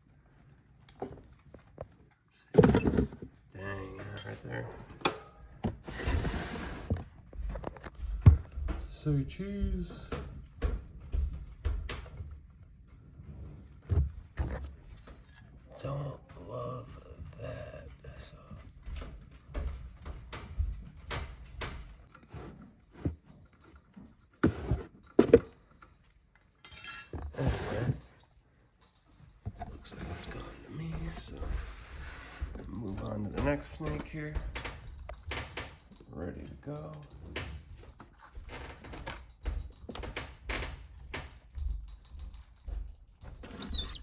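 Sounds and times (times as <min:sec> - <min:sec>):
knocks and scrapes: 0:01.0 - 0:15.7, 0:18.9 - 0:44.0.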